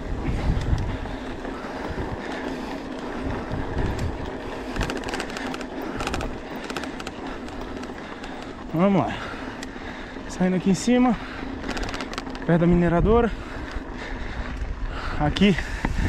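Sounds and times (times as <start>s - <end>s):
bike tyres rolling on dirt: 0.0s - 16.0s
rapid bike clicking: 0.0s - 16.0s.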